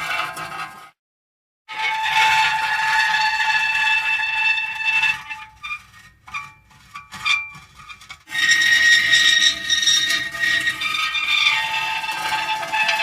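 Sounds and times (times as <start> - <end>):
metal creaking and squealing: 0.0 - 0.8, 1.7 - 13.0.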